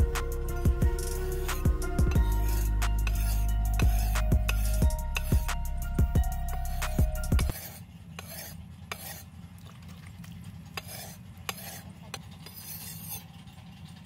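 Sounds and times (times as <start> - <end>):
blade rasping on whetstone: 0.0 - 9.3, 10.8 - 13.6.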